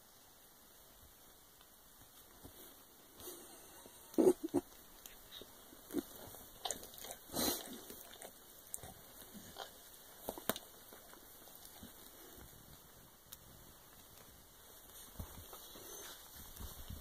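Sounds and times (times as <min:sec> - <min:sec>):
animals scuffling on bedding: 0:01.2 - 0:17.0
soft mouthing noises: 0:01.6 - 0:17.0.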